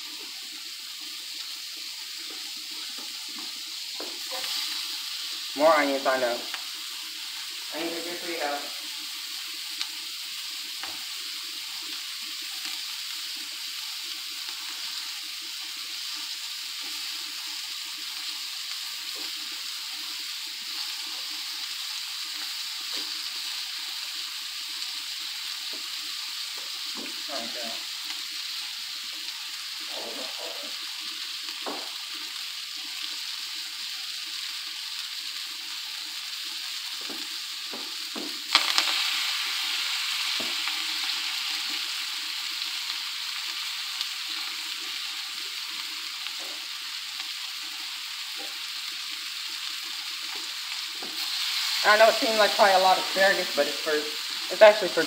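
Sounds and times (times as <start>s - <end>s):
onions sizzling in a wok: 0.0s - 55.0s.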